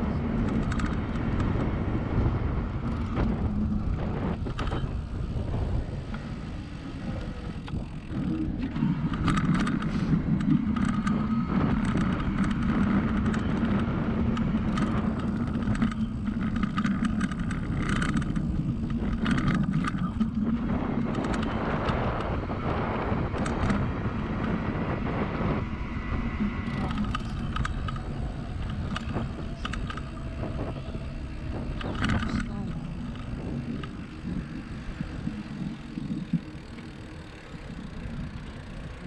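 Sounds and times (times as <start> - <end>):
rattling clicks over paving: 0.0 - 39.0
steady motor hum: 0.0 - 39.0
tyre noise: 0.0 - 39.0
wind buffeting microphone: 0.0 - 39.0.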